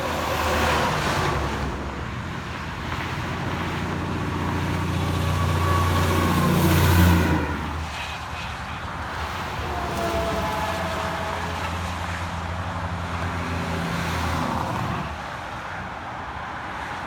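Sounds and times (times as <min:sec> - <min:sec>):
vehicle engine drone passing by: 0:00.0 - 0:15.4
traffic noise: 0:00.0 - 0:17.0.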